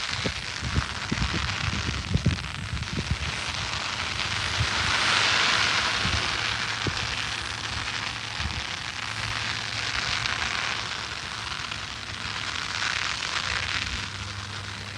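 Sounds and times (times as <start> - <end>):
firework hissing and spraying: 0.0 - 14.9.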